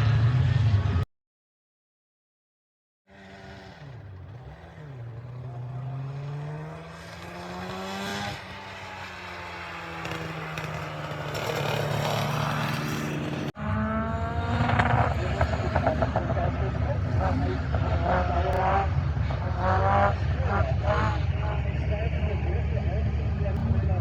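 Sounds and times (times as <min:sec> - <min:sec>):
racing car engine revving: 0:03.1 - 0:24.0
rough-running engine: 0:03.1 - 0:24.0.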